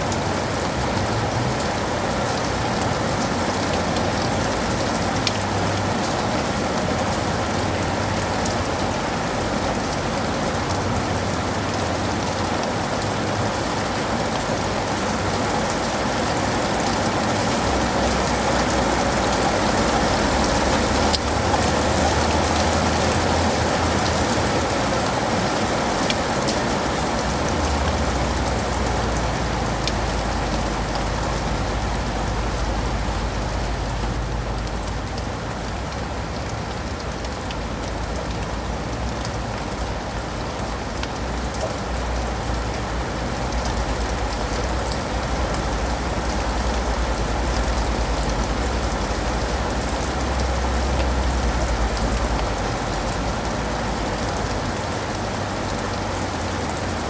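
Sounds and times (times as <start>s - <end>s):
rain on leaves and pavement: 0.0s - 57.0s.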